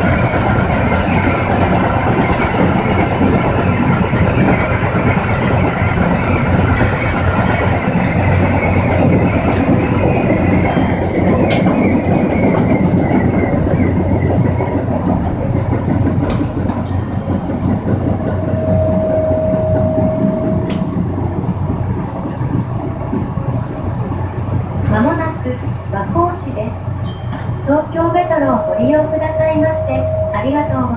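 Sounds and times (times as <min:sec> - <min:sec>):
steady whine: 0:00.0 - 0:24.3, 0:26.0 - 0:30.9
train wheels and motors rumbling: 0:00.0 - 0:30.9.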